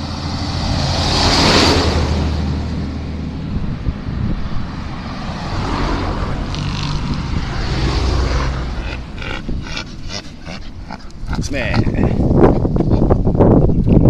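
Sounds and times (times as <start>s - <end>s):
vehicle passing: 0.0s - 12.4s.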